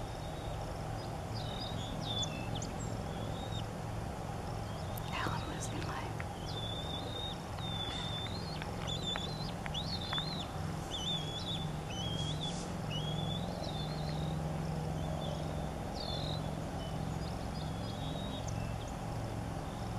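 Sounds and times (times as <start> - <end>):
steady low hum: 0.0 - 19.9
eagle whistled calls: 1.4 - 3.7, 4.6 - 14.4, 15.0 - 18.9.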